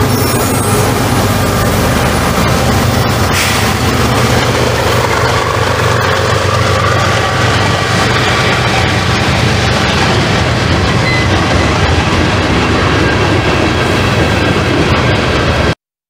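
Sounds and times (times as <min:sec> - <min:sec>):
diesel locomotive engine running: 0:00.0 - 0:15.8
freight train passing: 0:00.0 - 0:15.8.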